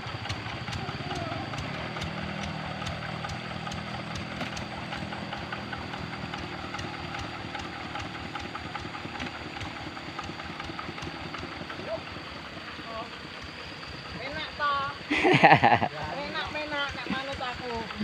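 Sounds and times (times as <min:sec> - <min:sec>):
diesel engine knocking: 0:00.0 - 0:15.1, 0:16.2 - 0:18.0.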